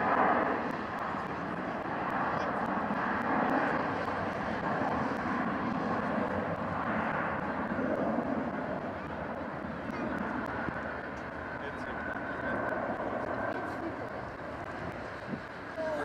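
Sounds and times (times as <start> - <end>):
jet engines at takeoff power: 0.0 - 16.0.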